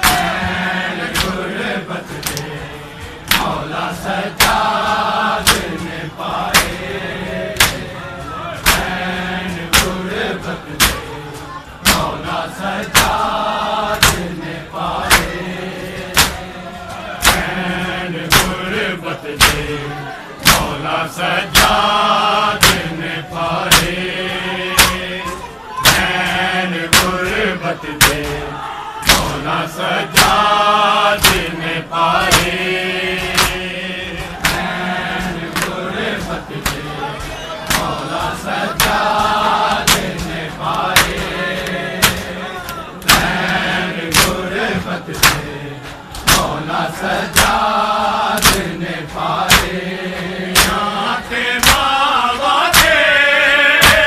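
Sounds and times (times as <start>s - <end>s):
hands slapping bare chests: 0.0s - 7.9s, 8.6s - 11.1s, 11.8s - 19.8s, 20.4s - 53.1s, 53.7s - 54.0s
men chanting together: 0.0s - 54.0s.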